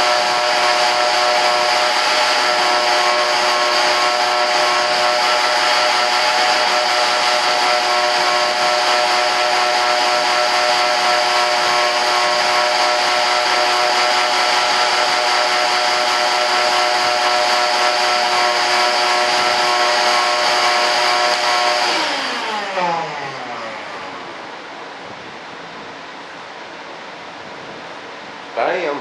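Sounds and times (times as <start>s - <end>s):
shop vacuum running: 0.0s - 26.8s.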